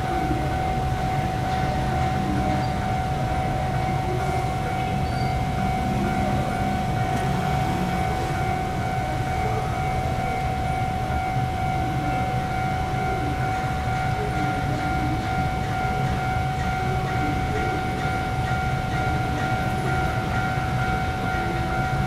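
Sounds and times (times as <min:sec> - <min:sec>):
level crossing warning tone: 0:00.0 - 0:22.0.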